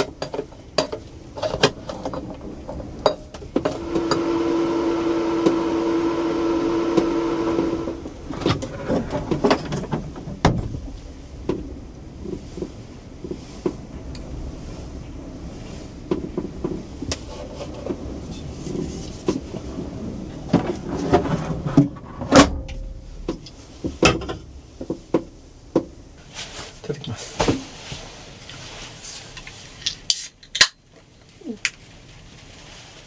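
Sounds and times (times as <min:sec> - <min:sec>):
low rumble: 0:00.0 - 0:28.9.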